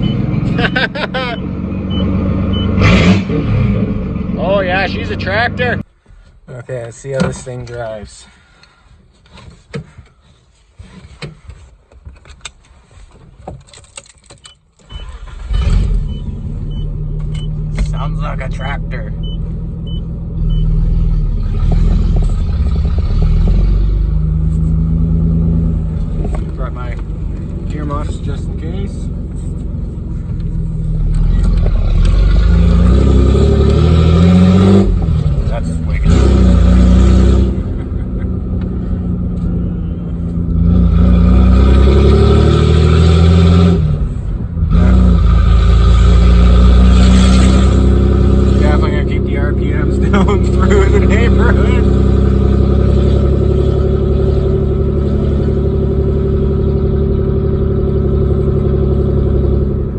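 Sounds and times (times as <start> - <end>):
loud car engine rumble: 0.0 - 8.2, 14.9 - 59.9.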